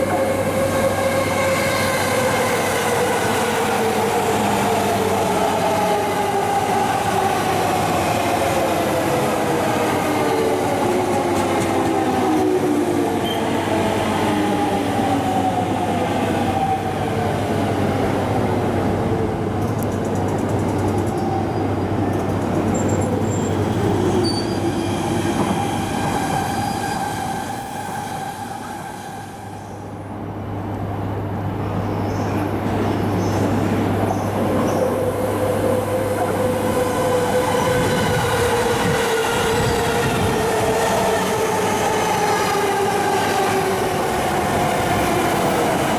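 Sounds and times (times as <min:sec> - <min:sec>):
train wheel and track rumble: 0:00.0 - 0:45.9.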